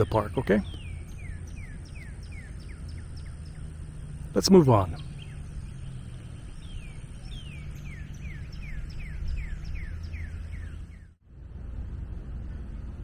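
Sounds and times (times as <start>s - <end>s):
bird whistling song: 0.0s - 11.2s
low steady rumble: 0.0s - 13.0s.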